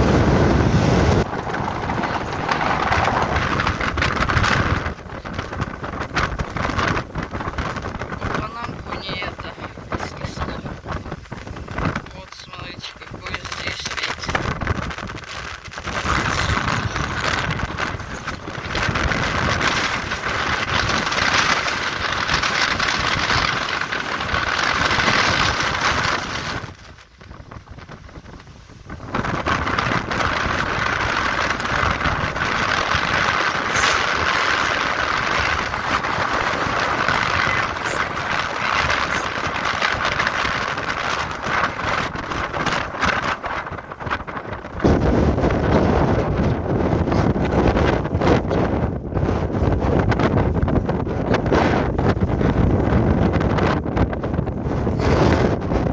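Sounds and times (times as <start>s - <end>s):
strong wind on microphone: 0.0s - 55.9s.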